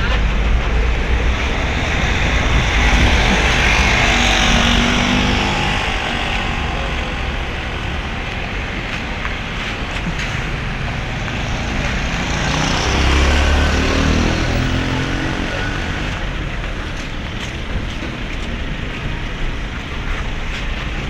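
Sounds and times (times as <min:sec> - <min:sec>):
passing engine: 0:00.0 - 0:21.0
vehicle engine and tyre noise: 0:00.0 - 0:21.0.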